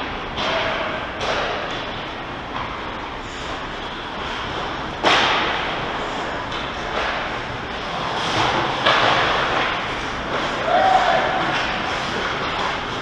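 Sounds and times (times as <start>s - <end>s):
skating and rink noise: 0.0s - 13.0s.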